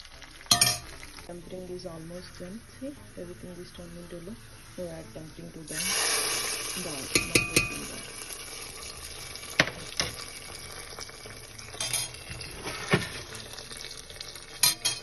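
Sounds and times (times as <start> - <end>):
oil sizzling in a pot: 0.0 - 15.0.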